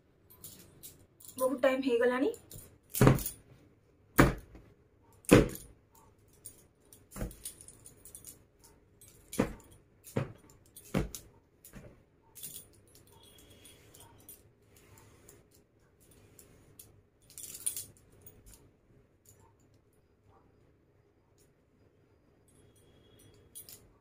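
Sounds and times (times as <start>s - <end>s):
bangles clinking: 0.2s - 3.5s, 4.3s - 20.1s, 21.3s - 24.0s.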